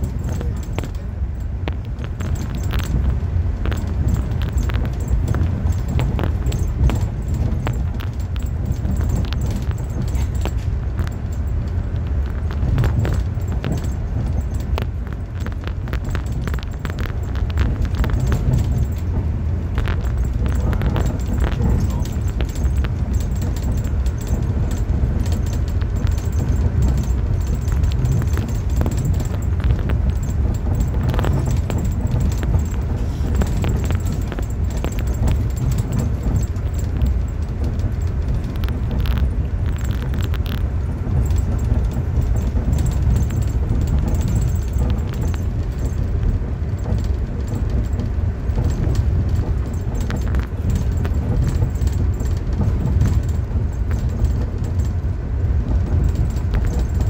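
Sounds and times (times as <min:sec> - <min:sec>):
light clicks and rattles: 0:00.0 - 0:57.0
train coach rumble: 0:00.0 - 0:57.0.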